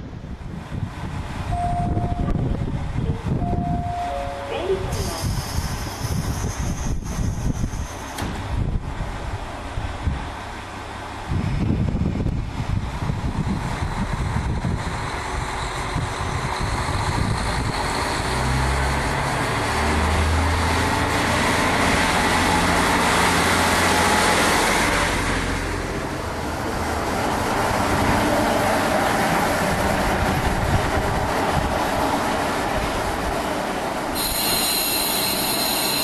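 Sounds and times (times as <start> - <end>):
diesel railcar engine drone: 0.0 - 36.0
train wheels rumbling on rails: 0.0 - 36.0.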